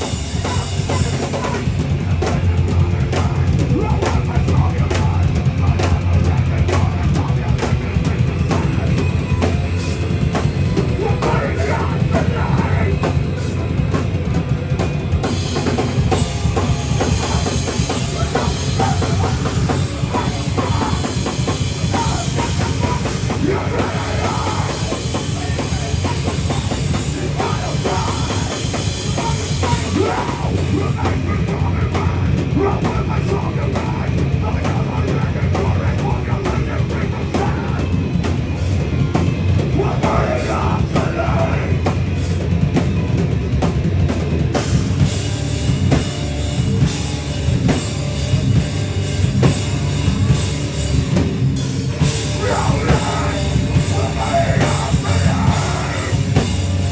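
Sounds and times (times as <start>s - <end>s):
drum kit: 0.0s - 56.9s
heavy rock band playing live: 0.0s - 56.9s.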